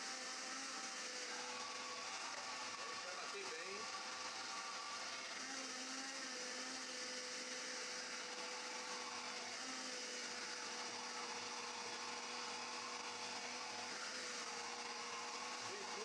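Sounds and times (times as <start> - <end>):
kitchen blender running: 0.0 - 16.0.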